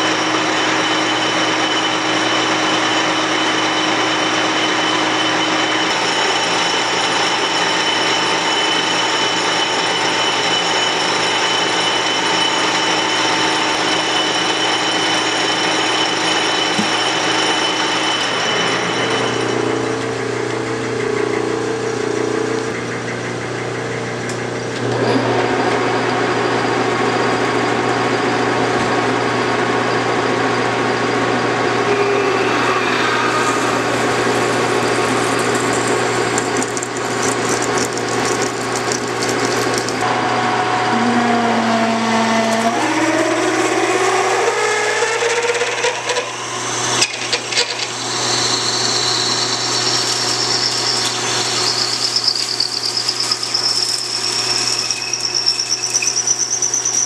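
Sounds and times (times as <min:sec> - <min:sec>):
metal lathe humming: 0:00.0 - 0:23.0, 0:30.9 - 0:57.0
drill boring with rising tone: 0:00.0 - 0:23.1, 0:30.5 - 0:57.0.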